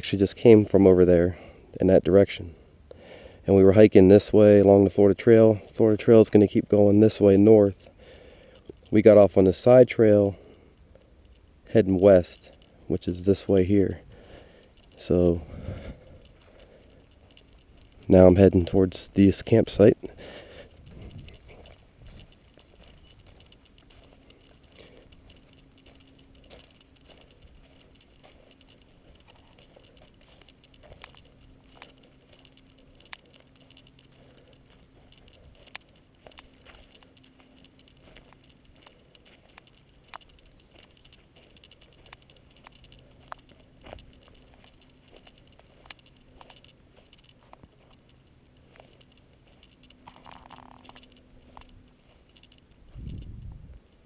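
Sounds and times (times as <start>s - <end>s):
low steady hum: 0.0s - 54.0s
footsteps on dirt trail: 2.4s - 54.0s.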